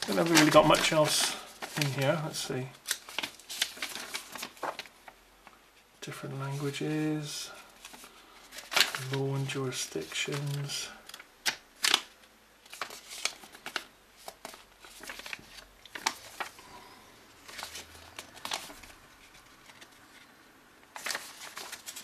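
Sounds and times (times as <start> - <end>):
paper leaflet rustling: 0.0 - 5.6, 6.4 - 22.0.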